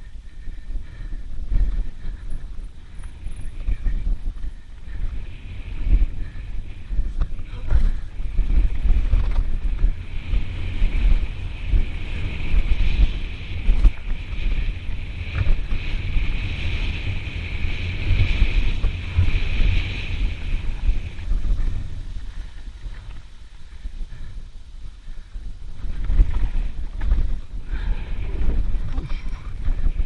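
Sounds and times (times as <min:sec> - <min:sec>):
bike rattling over bumps: 0:00.0 - 0:30.0
wind buffeting microphone: 0:00.0 - 0:30.0.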